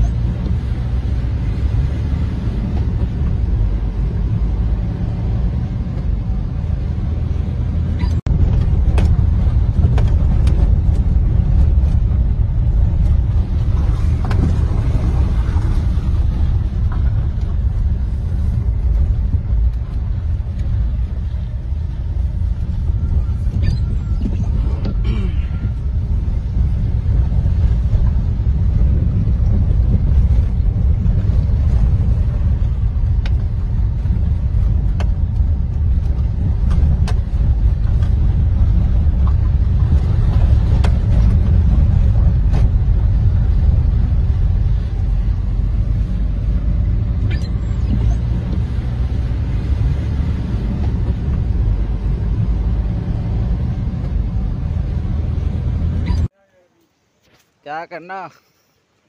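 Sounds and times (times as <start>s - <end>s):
vehicle interior road rumble: 0.0s - 57.4s.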